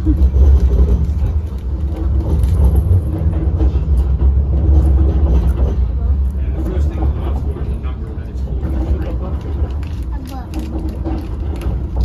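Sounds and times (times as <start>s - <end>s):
tram low rumble: 0.0s - 12.0s.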